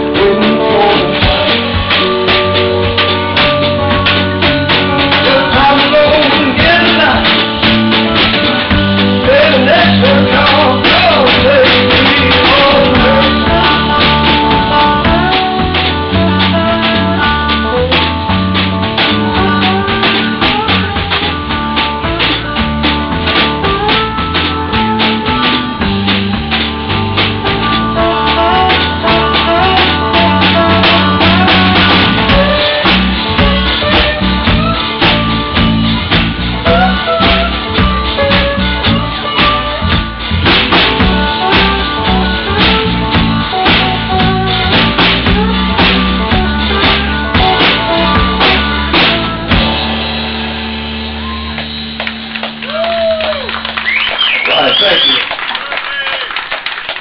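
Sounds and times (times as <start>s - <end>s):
slide guitar: 0.0s - 54.0s
bass line: 0.0s - 55.4s
drum kit steady beat: 0.0s - 55.4s.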